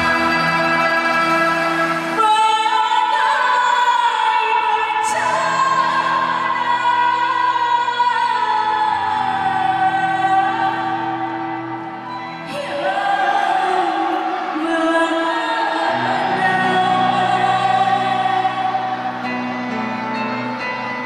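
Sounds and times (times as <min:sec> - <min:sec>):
woman singing through pa: 0:00.0 - 0:11.5, 0:12.4 - 0:19.2.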